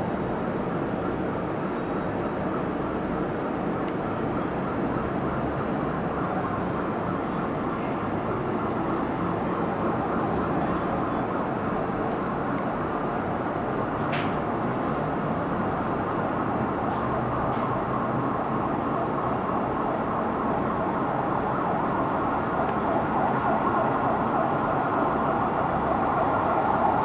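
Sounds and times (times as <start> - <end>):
city traffic rumble: 0.0 - 27.0.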